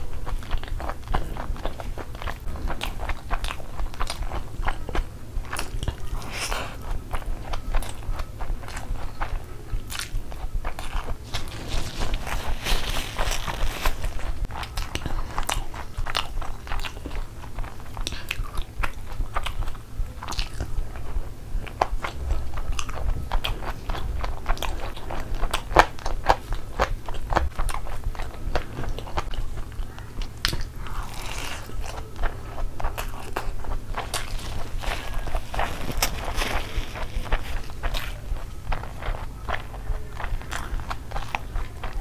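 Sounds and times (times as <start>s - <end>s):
low steady hum: 0.0s - 42.0s
wet chewing clicks and smacks: 0.0s - 42.0s.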